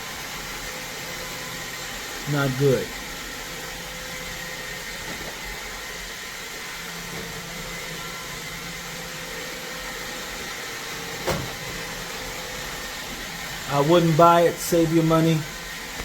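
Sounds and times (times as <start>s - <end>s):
robot vacuum whirring: 0.0s - 16.0s.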